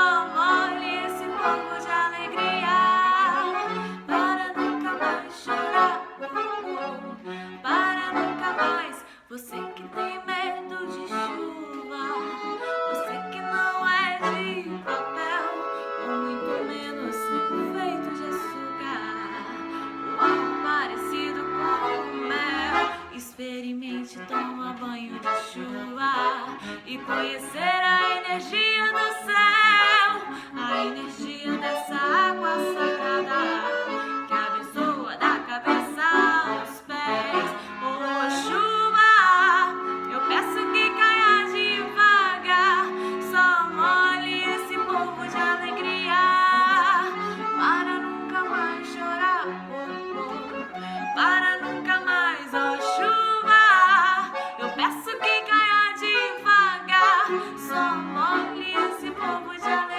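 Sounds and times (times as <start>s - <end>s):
accordion playing melody: 0.0s - 59.9s.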